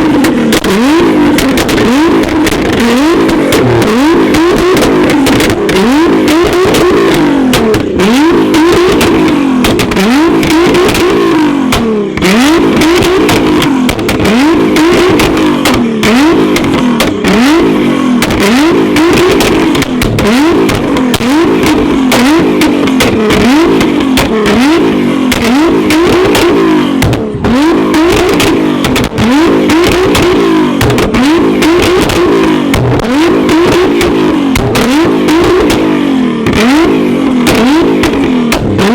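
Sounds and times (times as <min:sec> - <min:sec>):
car engine revving: 0:00.0 - 0:38.9
exhaust crackles: 0:00.0 - 0:38.9.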